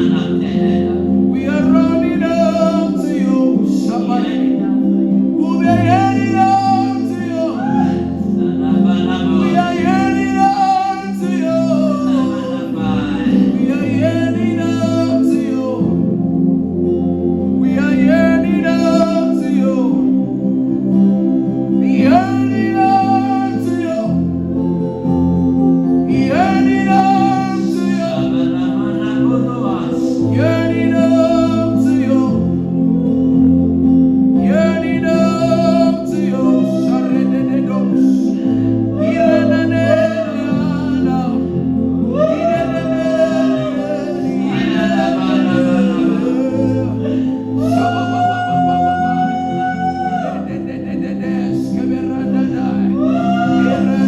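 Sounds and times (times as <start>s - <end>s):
bass line: 0.0s - 54.0s
person singing: 0.0s - 54.0s
sustained chords: 0.0s - 54.0s.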